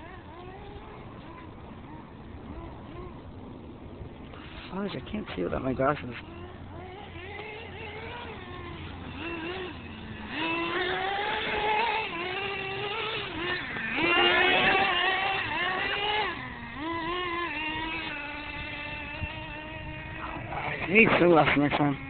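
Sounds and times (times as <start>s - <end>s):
small engine revving: 0.0s - 22.0s.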